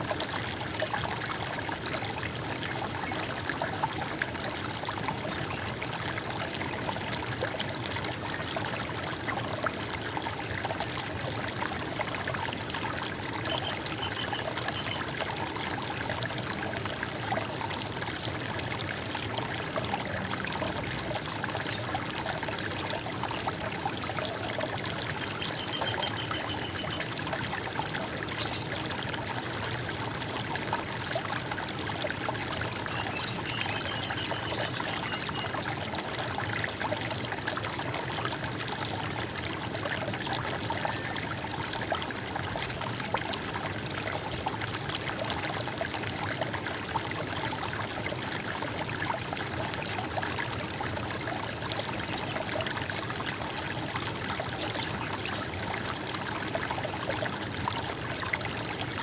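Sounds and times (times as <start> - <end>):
stream trickling and gurgling: 0.0 - 59.0.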